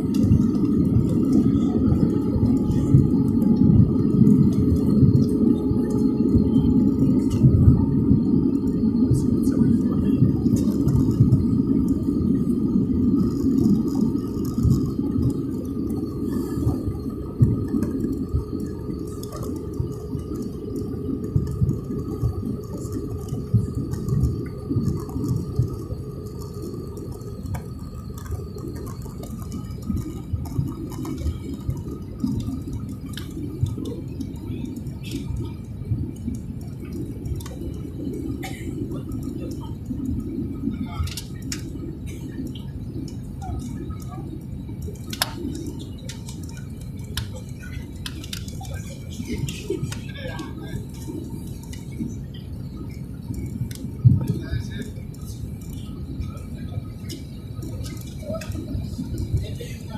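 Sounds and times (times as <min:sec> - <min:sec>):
airliner low rumble: 0:00.0 - 0:59.9
faint constant whine: 0:00.0 - 0:59.9.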